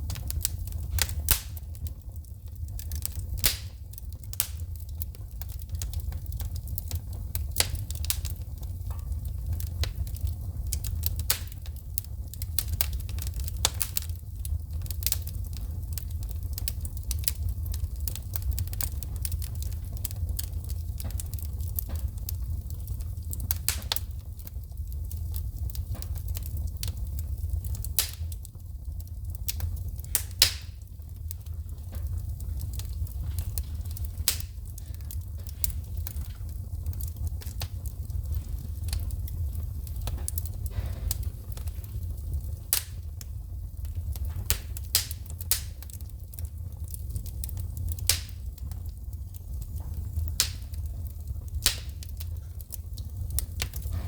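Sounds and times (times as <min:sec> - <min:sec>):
low rumble of flames: 0:00.0 - 0:54.0
wood fire pops and crackles: 0:00.0 - 0:54.0.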